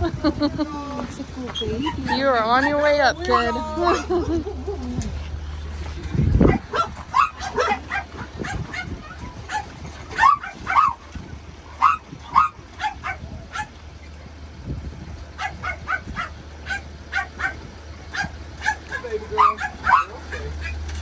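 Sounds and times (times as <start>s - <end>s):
dogs barking and yipping: 1.5s - 14.0s, 15.3s - 21.0s.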